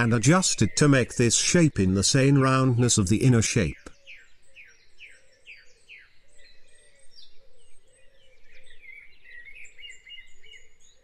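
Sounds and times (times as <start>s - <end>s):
many birds singing: 0.0s - 11.0s.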